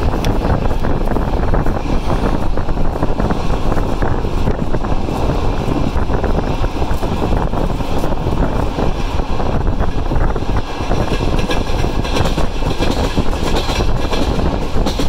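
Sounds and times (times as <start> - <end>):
wheels rumbling on rails: 0.0 - 15.0
wind rushing past microphone: 0.0 - 15.0.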